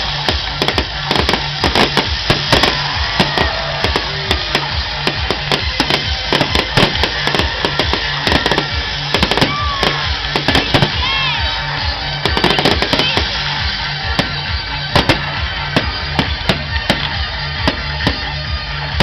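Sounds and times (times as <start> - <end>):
falling firework whistle: 0.0 - 19.0
fireworks crackling: 0.0 - 19.0
loud music with steady beat: 0.0 - 19.0.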